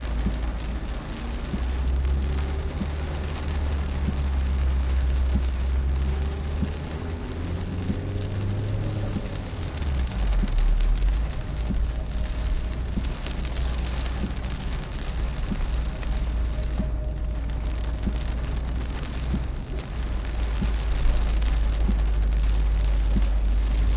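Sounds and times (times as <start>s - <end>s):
car engine and road drone: 0.0s - 23.9s
rain hitting a car: 0.0s - 23.9s.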